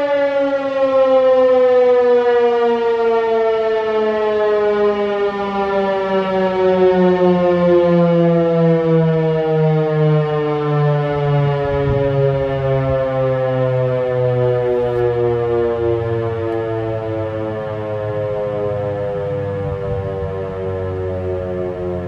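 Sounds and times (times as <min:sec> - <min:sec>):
warning siren winding down: 0:00.0 - 0:22.0.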